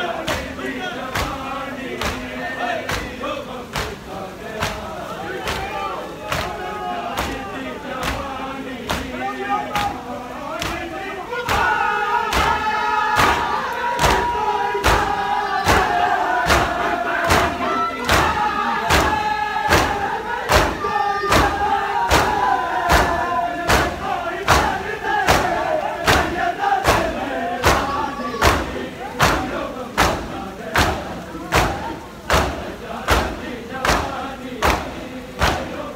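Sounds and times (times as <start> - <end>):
many voices chanting a lament: 0.0 - 35.9.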